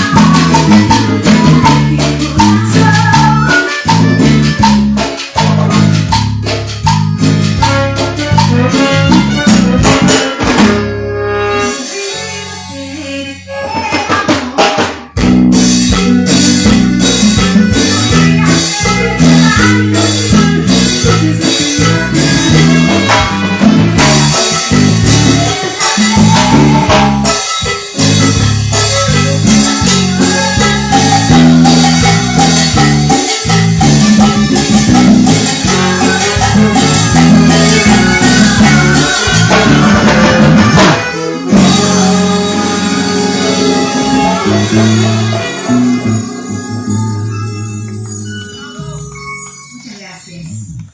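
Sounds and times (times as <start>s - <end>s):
drum kit latin dance beat: 0.0s - 12.8s, 13.6s - 50.9s
stepping bass line: 0.0s - 50.9s.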